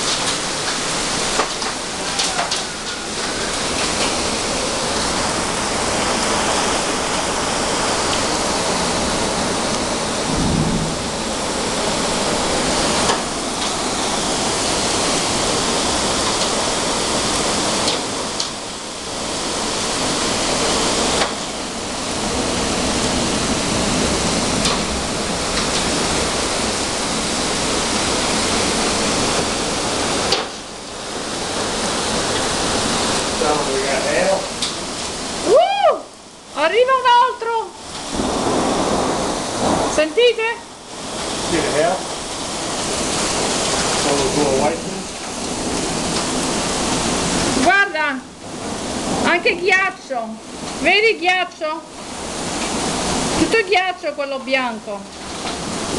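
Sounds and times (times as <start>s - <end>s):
strong wind: 0.0s - 53.9s
heavy rain: 0.0s - 55.9s.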